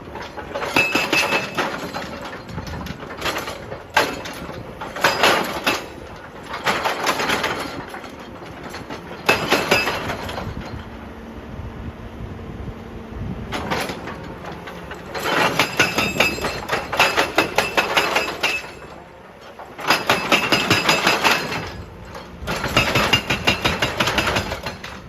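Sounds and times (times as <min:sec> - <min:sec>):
rock clanking and clattering: 0:00.0 - 0:11.1, 0:13.5 - 0:25.0
excavator engine running: 0:00.0 - 0:25.0.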